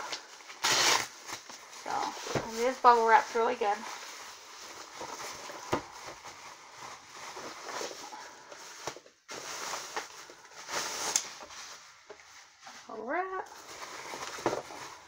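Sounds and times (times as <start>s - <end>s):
bubble wrap crinkling: 0.0s - 15.0s
plastic bag rustling: 0.0s - 15.0s.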